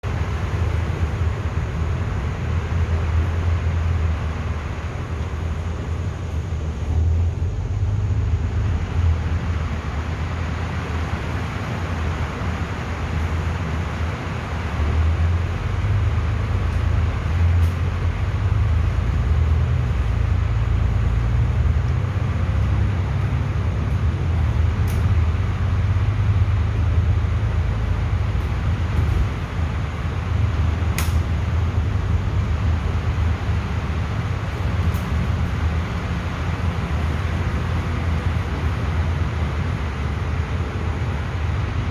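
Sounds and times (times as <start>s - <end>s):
bus engine and road rumble: 0.0s - 41.9s
rain and wet tyres hiss: 0.0s - 41.9s.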